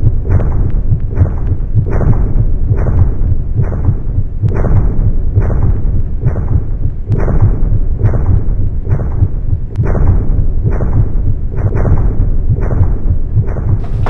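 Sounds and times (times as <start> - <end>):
deep rumbling pulse: 0.0 - 14.0.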